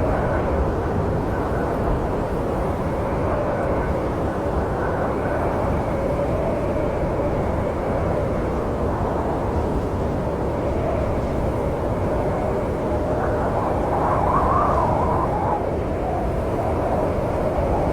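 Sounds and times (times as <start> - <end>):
snowstorm wind rushing: 2.1 - 17.9.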